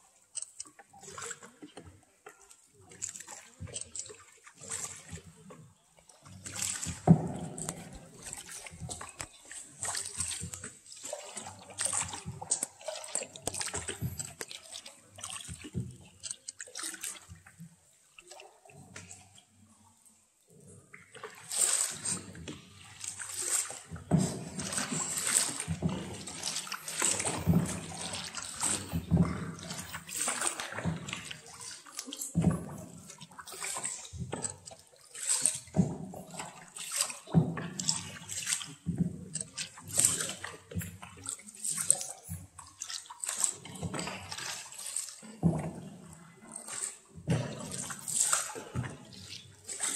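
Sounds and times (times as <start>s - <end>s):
water splashing around boat: 0.0s - 49.9s.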